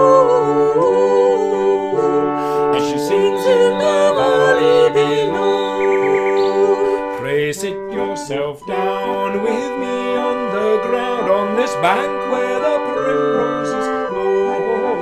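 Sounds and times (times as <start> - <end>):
instrumental folk chords and melody: 0.0 - 15.0
person singing: 0.0 - 15.0.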